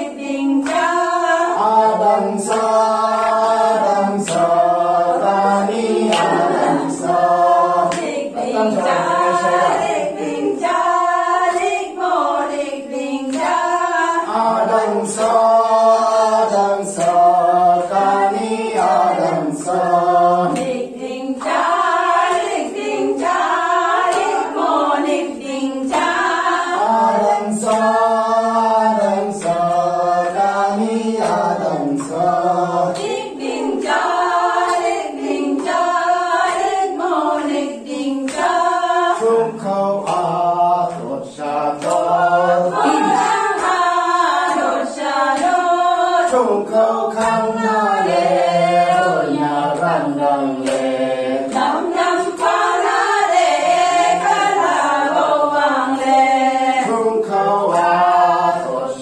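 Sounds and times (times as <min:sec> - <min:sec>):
group singing unaccompanied chant: 0:00.0 - 0:59.0.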